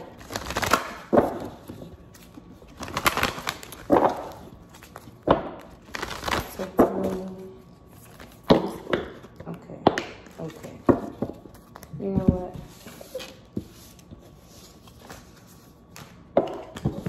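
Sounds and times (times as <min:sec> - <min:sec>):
cards being shuffled: 0:00.0 - 0:08.6, 0:10.2 - 0:17.0.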